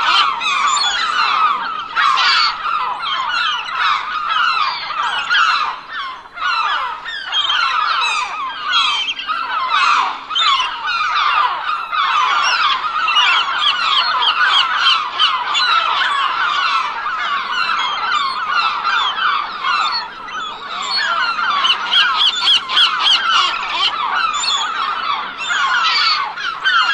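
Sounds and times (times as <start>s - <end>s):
gulls calling: 0.0s - 26.9s.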